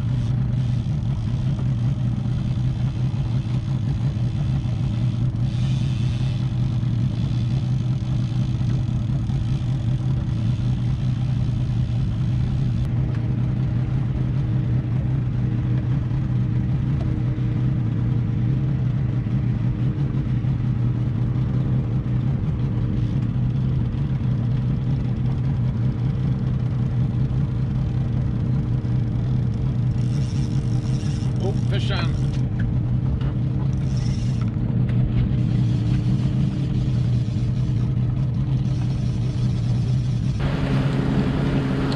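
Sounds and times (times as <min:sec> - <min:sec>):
boat engine drone: 0:00.0 - 0:41.9.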